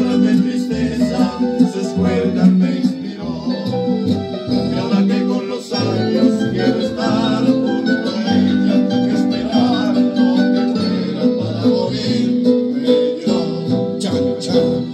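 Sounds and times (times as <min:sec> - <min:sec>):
acoustic guitar music: 0:00.0 - 0:14.9.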